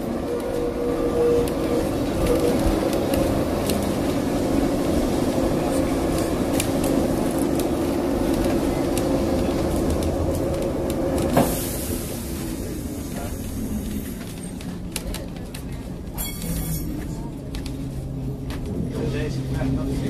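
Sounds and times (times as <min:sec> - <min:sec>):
tram motor hum: 0:00.0 - 0:20.0.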